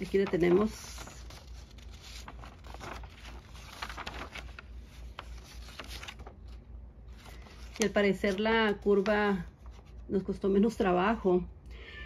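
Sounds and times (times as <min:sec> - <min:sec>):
paper rustling: 0:00.0 - 0:10.1.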